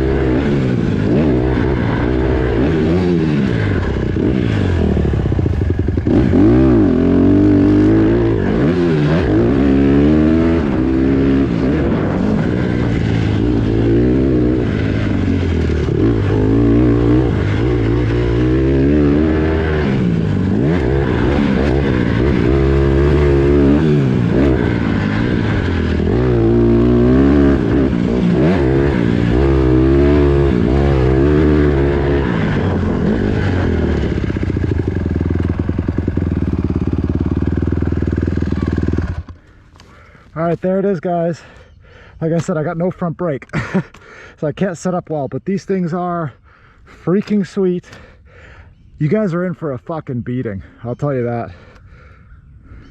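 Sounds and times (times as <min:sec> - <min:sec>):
pit bike engine revving: 0:00.0 - 0:44.1.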